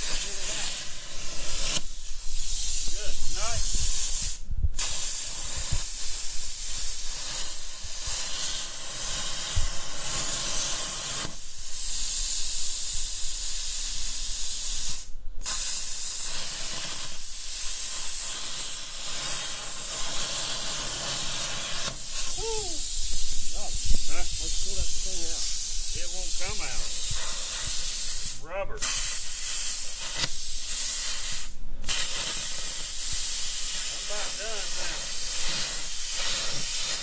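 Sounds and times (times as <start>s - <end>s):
plasma cutter hissing: 0.0s - 37.0s.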